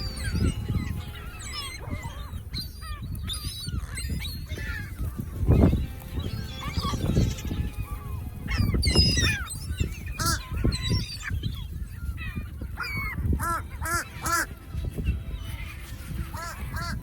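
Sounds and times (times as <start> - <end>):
birds honking: 0.0 - 17.0.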